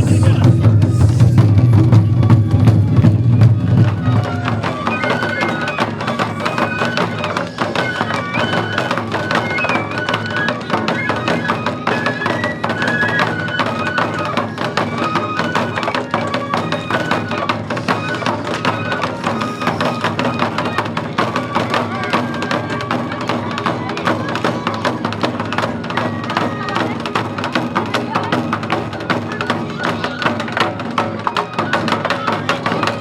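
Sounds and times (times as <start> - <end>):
bamboo flute melody: 0.0 - 33.0
fast steady drumming: 0.0 - 33.0.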